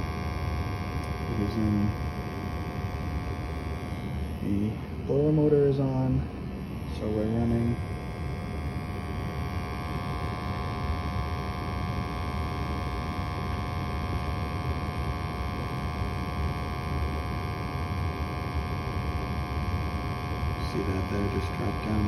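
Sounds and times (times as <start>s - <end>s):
gas furnace humming with whine: 0.0s - 22.0s.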